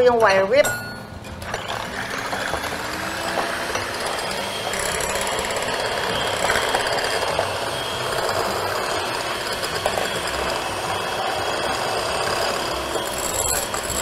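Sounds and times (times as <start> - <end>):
electric mixer whipping egg whites: 1.4 - 14.0.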